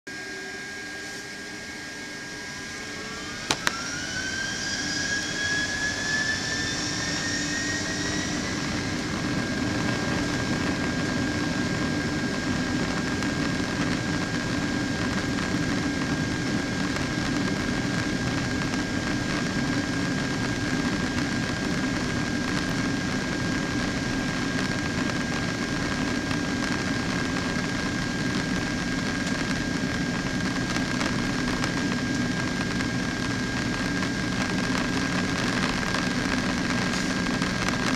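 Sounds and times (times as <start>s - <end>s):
jet engines spooling up: 0.1s - 37.9s.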